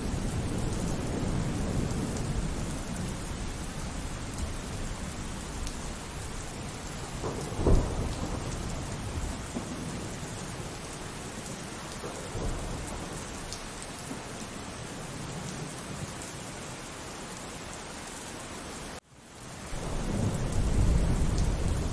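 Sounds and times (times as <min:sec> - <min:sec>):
thunderclap and rumbles: 0:00.0 - 0:16.0, 0:19.6 - 0:21.9
steady rain: 0:00.0 - 0:21.9.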